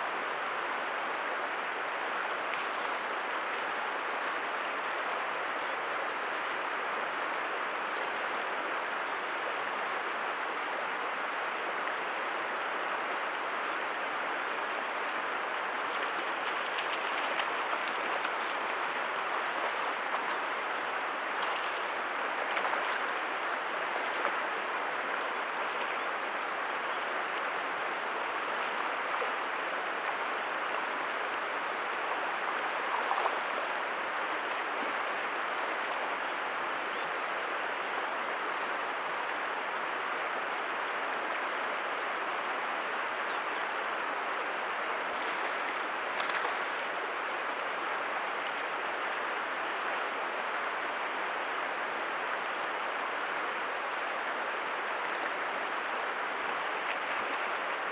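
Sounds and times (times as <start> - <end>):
flowing stream water: 0.0 - 57.9.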